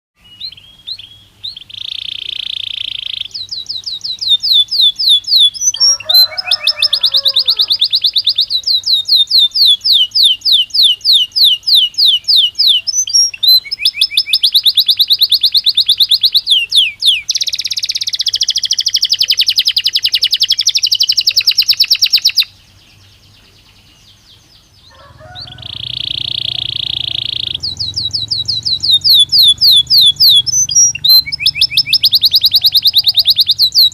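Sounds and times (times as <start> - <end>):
canary singing trills: 0.2 - 33.9.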